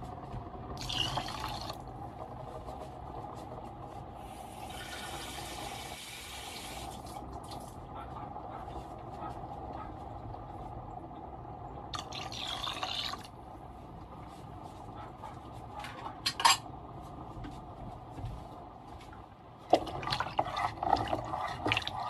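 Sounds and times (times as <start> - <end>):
broth simmering and bubbling: 0.0 - 14.9, 16.8 - 22.0
steady hum: 0.0 - 22.0.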